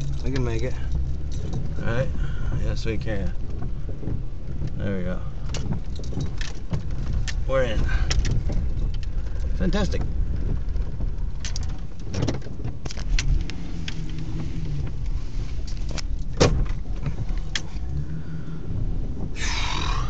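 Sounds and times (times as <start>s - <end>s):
clicks and rattles in cab: 0.0s - 18.1s
truck engine rumbling: 0.0s - 20.0s.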